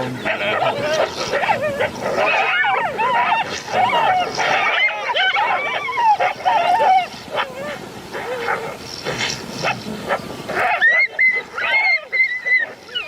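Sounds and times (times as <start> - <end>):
dog yelping and whining: 0.3 - 8.8, 9.6 - 13.0.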